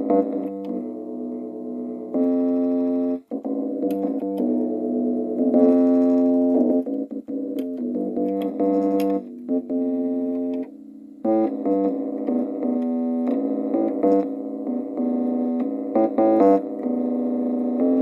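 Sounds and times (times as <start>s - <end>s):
electric piano chords: 0.0s - 18.0s.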